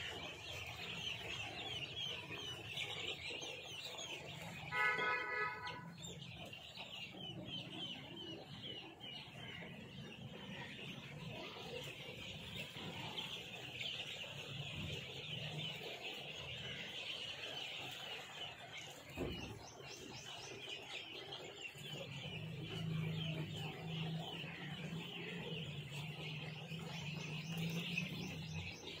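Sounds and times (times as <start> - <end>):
chicks peeping: 0.0 - 29.0.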